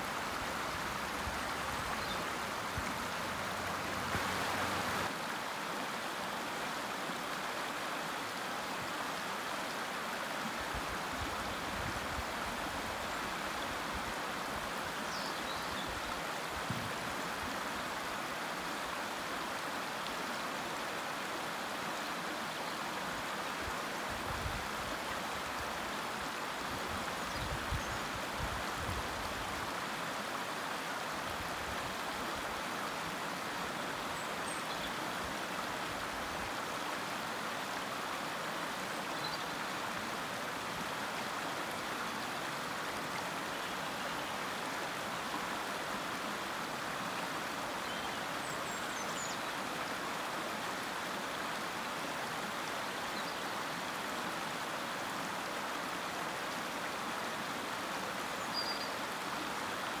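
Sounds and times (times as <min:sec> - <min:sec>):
stream rushing over stones: 0:00.0 - 1:00.0.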